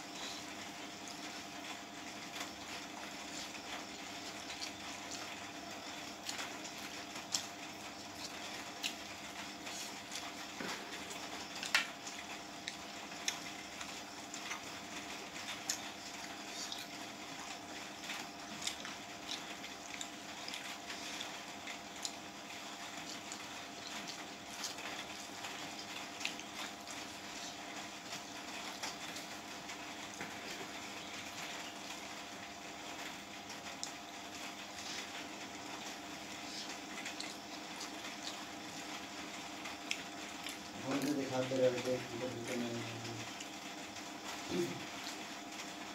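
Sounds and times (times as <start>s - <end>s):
steady background hum: 0.0s - 45.9s
wet chewing: 2.3s - 32.3s, 33.0s - 41.2s.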